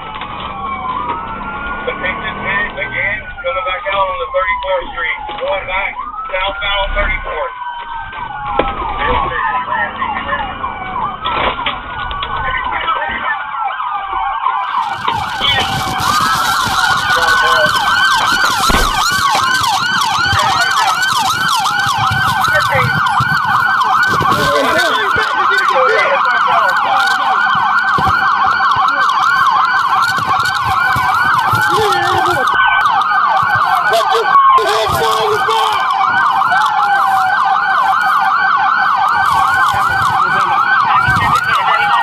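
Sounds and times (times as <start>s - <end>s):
police siren wailing and yelping: 0.0s - 42.0s
vehicle and road noise: 0.0s - 42.0s.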